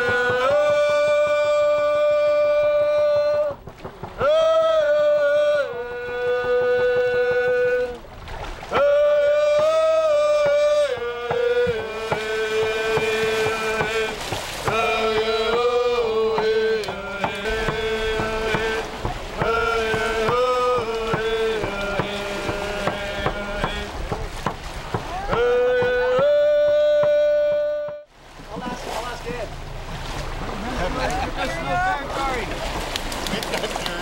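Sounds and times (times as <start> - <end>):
voices singing a chant: 0.0 - 8.1, 8.7 - 28.1.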